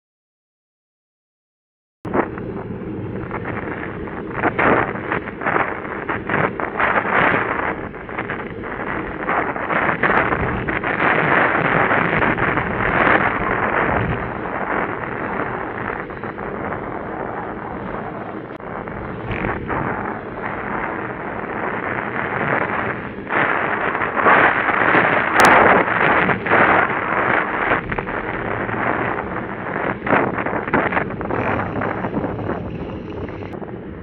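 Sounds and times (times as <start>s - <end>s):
sharp pops and crackles: 2.1s - 33.6s
wind buffeting microphone: 2.1s - 34.0s.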